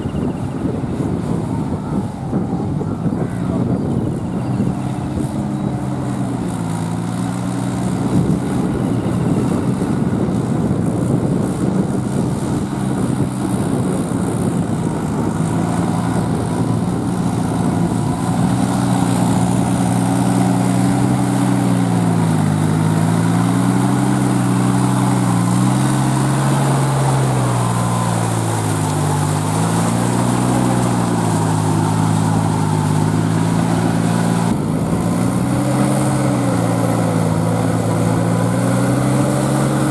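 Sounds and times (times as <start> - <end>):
tractor diesel engine labouring: 0.0 - 39.9.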